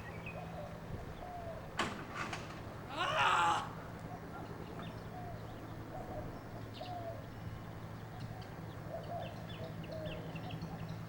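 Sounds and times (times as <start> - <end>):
birds calling and chirping: 0.0 - 1.9, 3.9 - 11.0.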